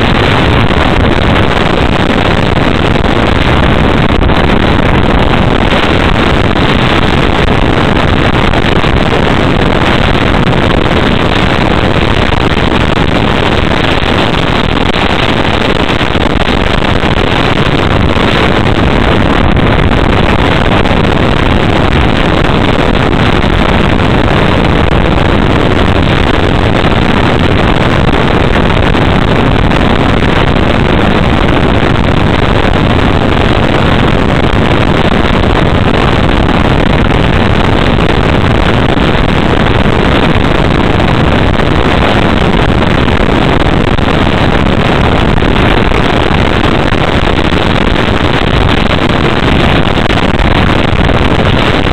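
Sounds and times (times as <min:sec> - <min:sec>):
airflow over microphone: 0:00.0 - 0:51.9.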